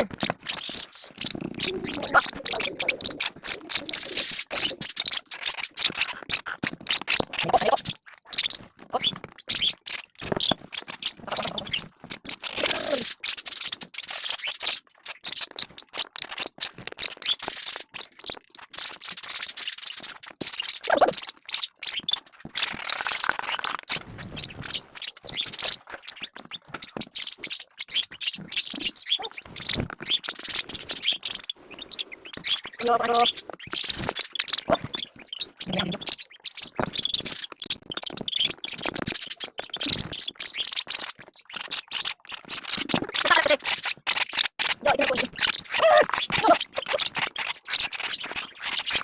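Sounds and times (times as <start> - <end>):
bird beak clicking and scraping: 0.0 - 49.0.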